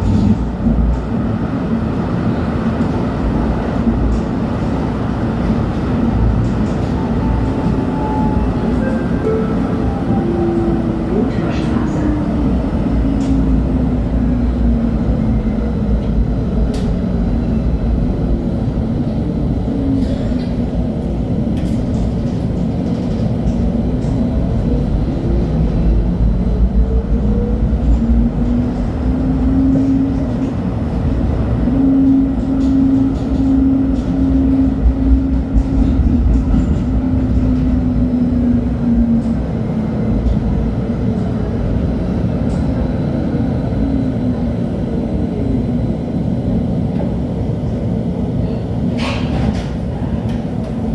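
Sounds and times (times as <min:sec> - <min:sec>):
wheels rumbling on rail: 0:00.0 - 0:50.9.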